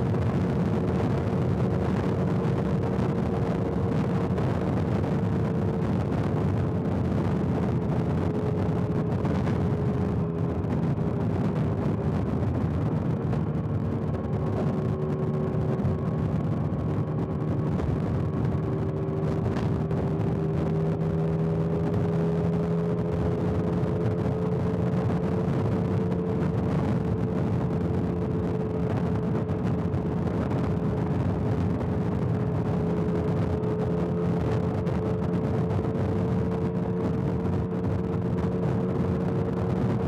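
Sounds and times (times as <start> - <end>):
motorcycle engine cruising: 0.0 - 40.0
wind and road noise: 0.0 - 40.0.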